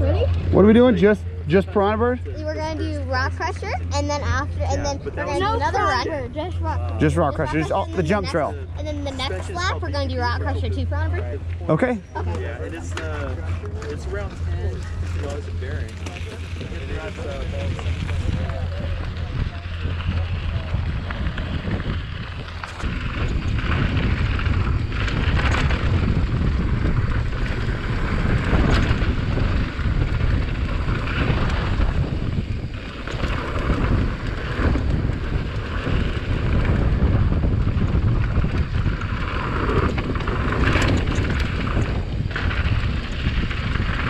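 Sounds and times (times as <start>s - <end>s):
bike rattling over bumps: 0.0s - 44.0s
wind rushing over microphone: 0.0s - 44.0s.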